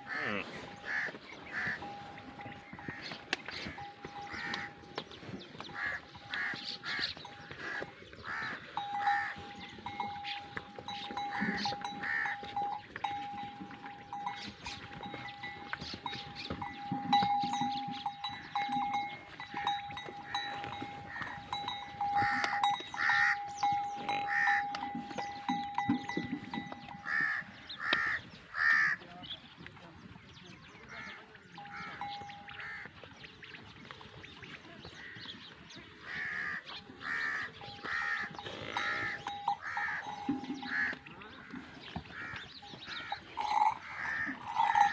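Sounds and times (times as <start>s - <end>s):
livestock calling: 0.0s - 29.0s, 36.0s - 44.9s.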